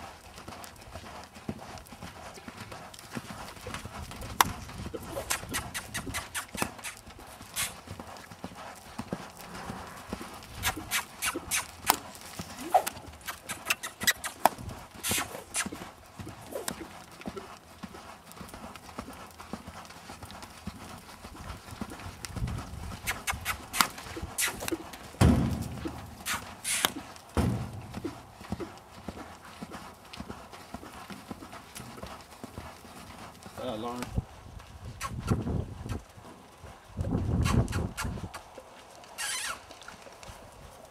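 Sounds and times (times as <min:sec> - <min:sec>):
horse hoofbeats on sand: 0:00.0 - 0:39.1.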